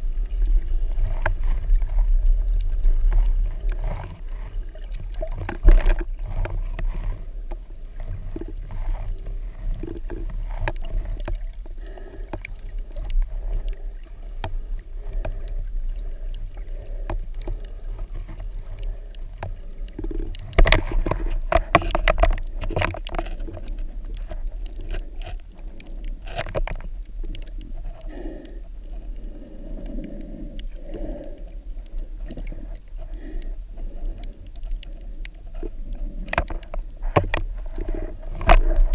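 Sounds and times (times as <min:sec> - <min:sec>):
underwater low rumble: 0:00.0 - 0:38.9
underwater clicks and knocks: 0:00.4 - 0:38.9.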